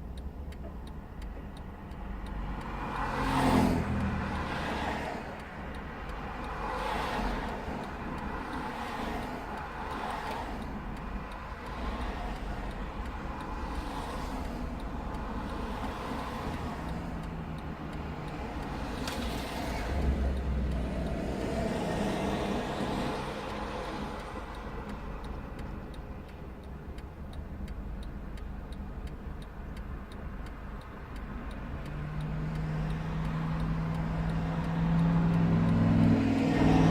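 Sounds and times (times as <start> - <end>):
vehicles passing: 0.0 - 36.9.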